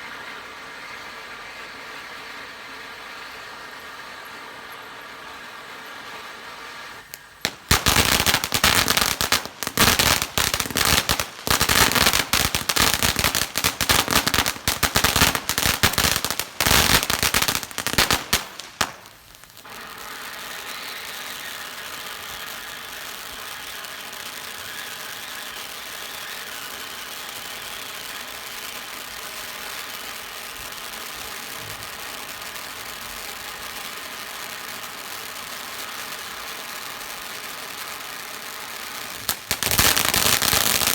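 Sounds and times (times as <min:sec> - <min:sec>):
fireworks crackling: 0:00.0 - 0:40.9
fireworks hissing: 0:00.0 - 0:40.9.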